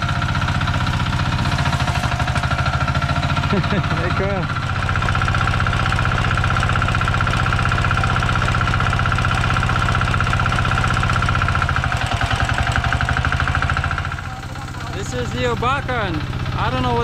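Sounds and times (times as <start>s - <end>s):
fiber stripping machine running: 0.0s - 17.0s.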